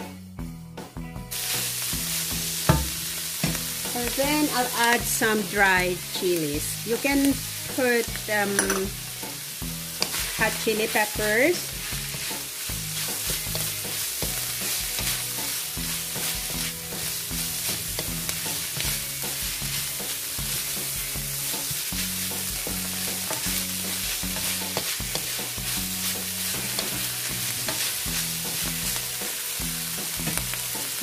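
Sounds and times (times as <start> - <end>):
food sizzling in a wok: 0.0 - 31.0
wooden spatula scraping wok: 1.3 - 31.0.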